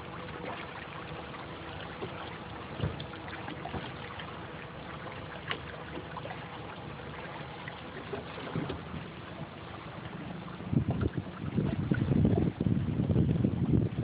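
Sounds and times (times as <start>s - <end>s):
boat motor hum: 0.0s - 14.0s
water lapping against hull: 0.0s - 14.0s.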